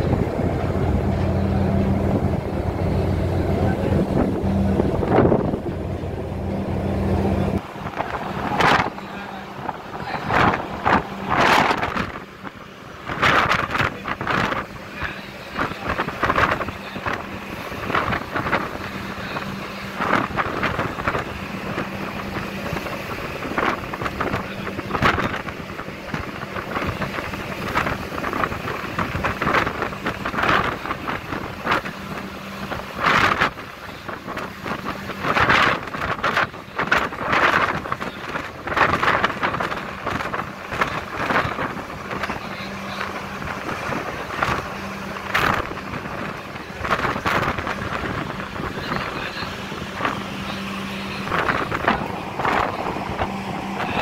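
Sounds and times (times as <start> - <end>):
heavy low rumble: 0.0 - 54.0
ship engines droning: 0.0 - 54.0
wind buffeting microphone: 0.0 - 54.0.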